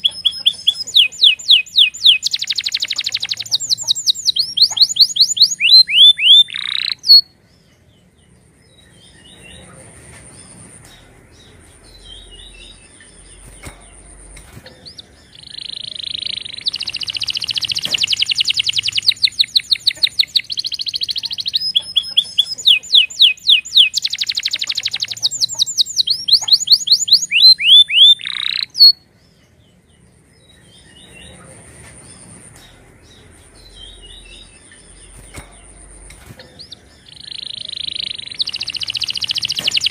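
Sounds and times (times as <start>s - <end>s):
canary singing: 0.0s - 39.9s
distant chirps: 0.0s - 39.9s.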